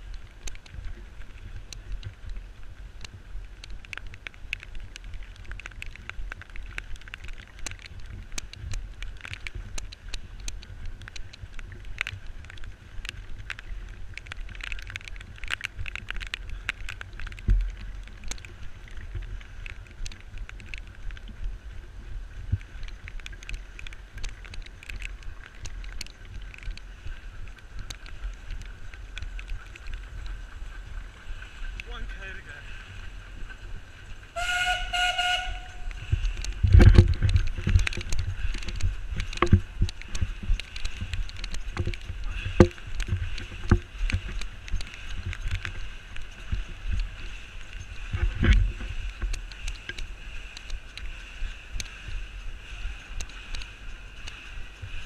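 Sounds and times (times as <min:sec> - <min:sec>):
running footsteps on dirt: 0:00.0 - 0:55.0
wind rumble on microphone: 0:00.0 - 0:55.0.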